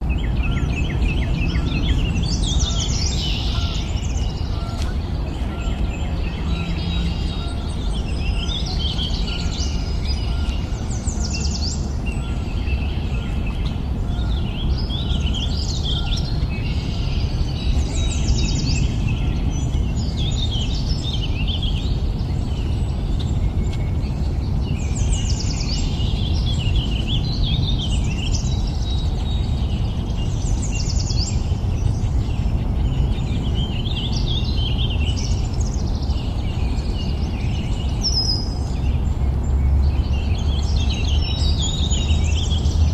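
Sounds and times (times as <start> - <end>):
low background rumble: 0.0 - 42.9
songbirds singing: 0.0 - 42.9.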